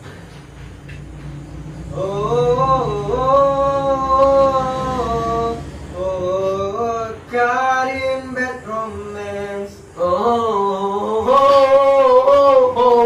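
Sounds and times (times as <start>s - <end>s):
group of men singing: 1.9s - 13.0s.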